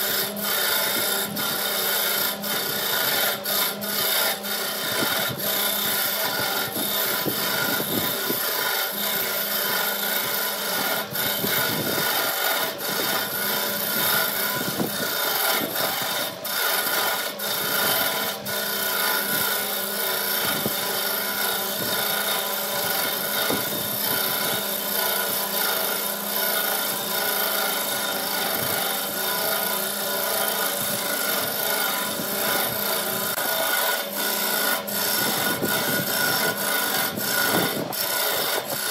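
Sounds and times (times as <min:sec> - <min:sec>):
lathe motor hum: 0:00.0 - 0:38.9
turning tool scraping wood: 0:00.0 - 0:38.9.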